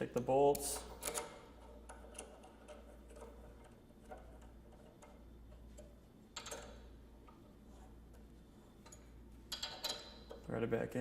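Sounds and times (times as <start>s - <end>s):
low steady hum: 0.0s - 11.0s
light clicks of metal parts: 0.4s - 10.7s.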